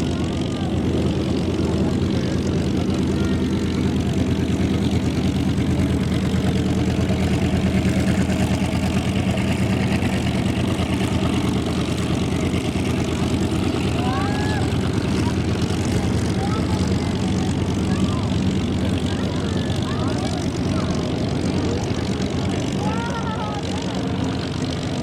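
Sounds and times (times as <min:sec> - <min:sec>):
propeller aircraft engine droning: 0:00.0 - 0:25.0.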